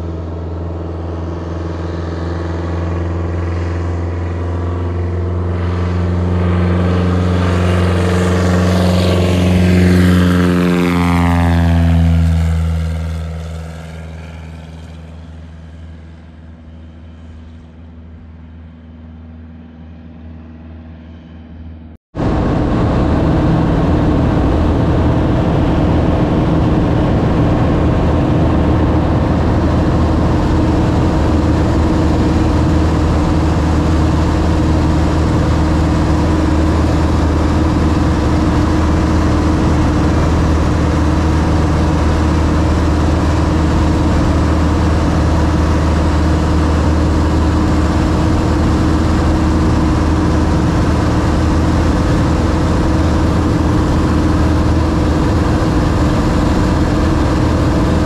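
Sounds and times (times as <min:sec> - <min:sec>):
plane engine drone inside cabin: 0:00.0 - 0:58.0
propeller plane passing overhead: 0:00.0 - 0:58.0.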